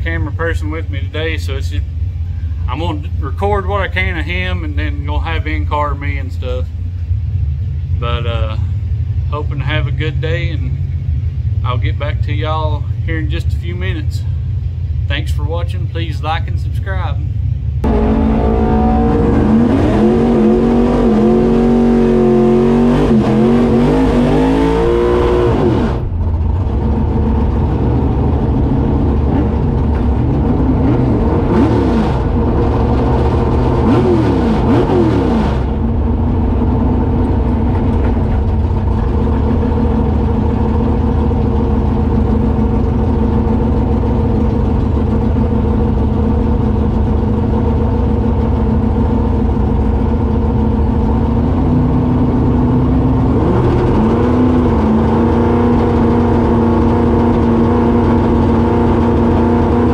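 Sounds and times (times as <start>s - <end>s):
engine revving and idling: 0.0s - 59.9s.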